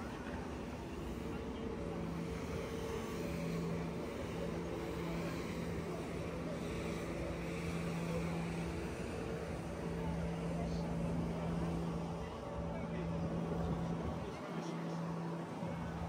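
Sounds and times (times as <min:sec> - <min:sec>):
engine humming: 0:00.0 - 0:16.0
outdoor noise: 0:00.0 - 0:16.0.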